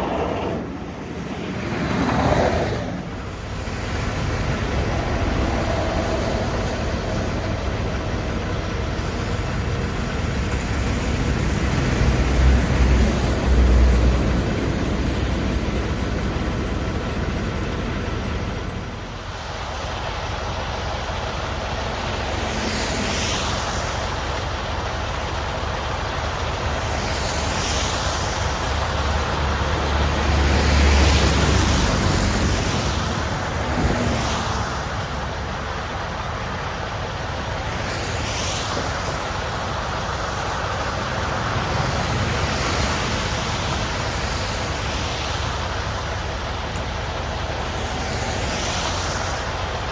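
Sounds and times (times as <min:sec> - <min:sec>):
truck engine and road noise: 0:00.0 - 0:49.9.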